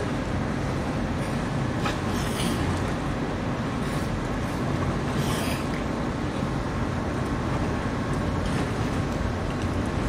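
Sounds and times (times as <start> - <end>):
ship engines rumbling: 0.0 - 10.0.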